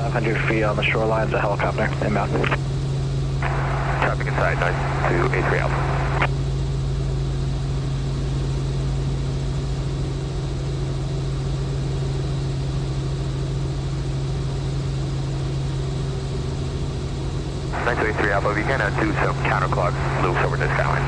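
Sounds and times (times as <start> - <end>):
helicopter engine and rotors droning: 0.0 - 21.0.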